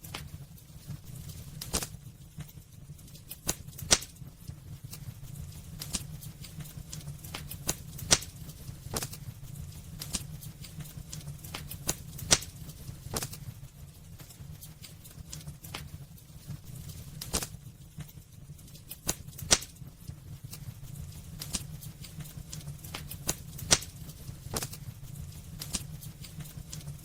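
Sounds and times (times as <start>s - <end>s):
burning logs crackling and popping: 0.0s - 27.0s
low rumble of flames: 0.0s - 27.0s.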